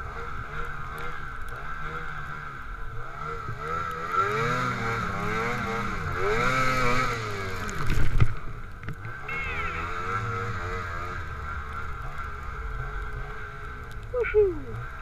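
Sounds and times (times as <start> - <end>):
snowmobile engine revving: 0.0 - 7.8, 9.1 - 15.0.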